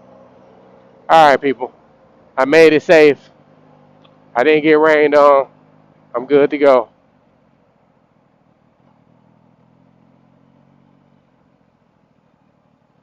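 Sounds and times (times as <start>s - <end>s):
faint vehicle engine hum: 0.0s - 13.0s.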